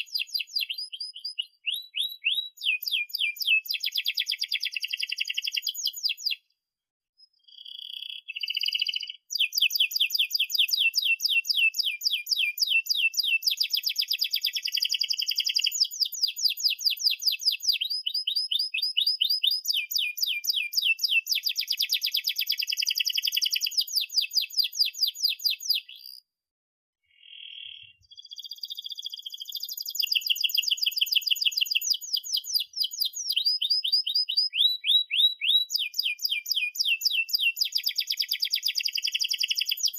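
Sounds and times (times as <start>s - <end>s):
canary singing trills: 0.0s - 6.4s, 7.2s - 26.2s, 27.1s - 39.9s.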